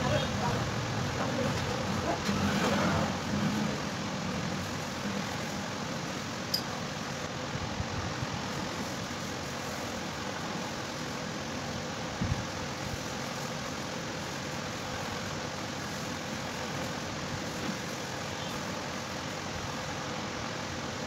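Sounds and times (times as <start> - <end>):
mechanical hum and hiss: 0.0 - 21.0.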